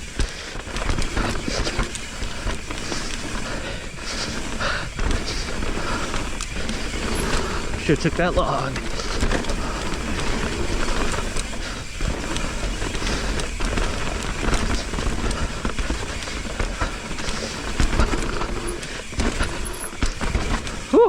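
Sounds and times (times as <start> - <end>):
bike rattling: 0.0 - 21.0
tyres rolling over dirt and rock: 0.0 - 21.0.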